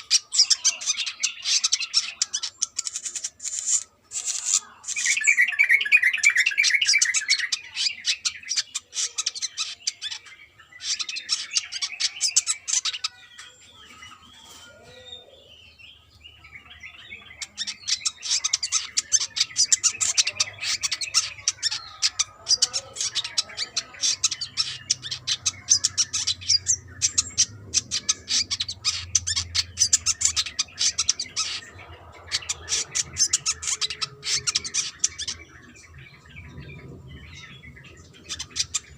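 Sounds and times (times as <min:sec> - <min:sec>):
bird chattering trills: 0:00.0 - 0:15.4, 0:16.3 - 0:38.9.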